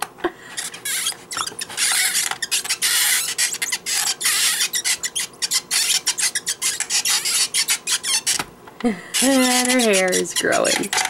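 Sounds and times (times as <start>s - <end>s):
plastic crank grinding: 0.6s - 8.4s, 9.2s - 11.0s.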